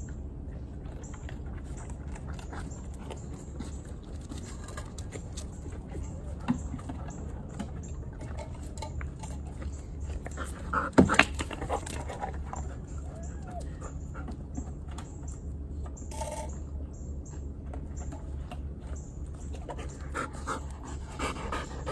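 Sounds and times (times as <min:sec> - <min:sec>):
low background hum: 0:00.0 - 0:21.9.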